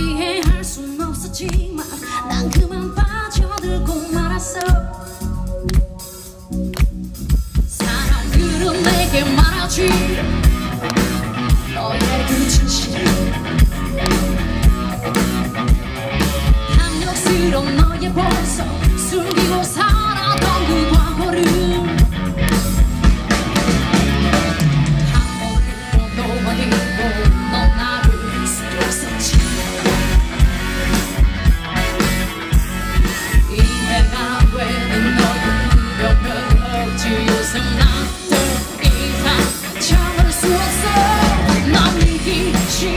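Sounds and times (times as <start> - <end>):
woman singing lead: 0.0 - 6.5, 7.5 - 14.2, 16.4 - 22.8, 25.0 - 30.5, 33.0 - 42.9
rock band playing: 0.0 - 42.9.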